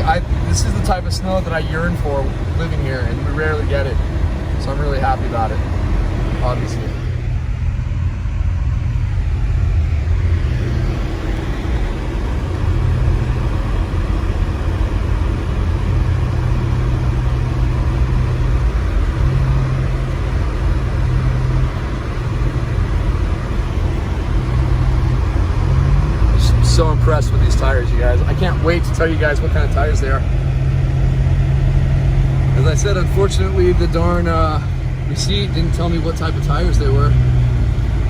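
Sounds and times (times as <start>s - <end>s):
car driving on snow rumble: 0.0s - 38.0s.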